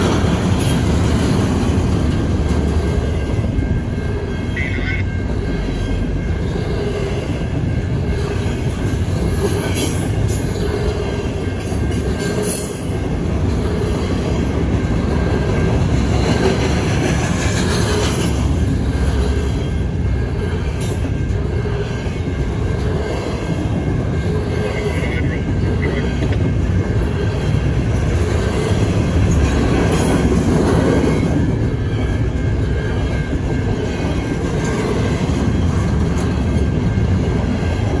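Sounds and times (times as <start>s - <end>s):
steel wheels rumbling on rail: 0.0s - 38.0s.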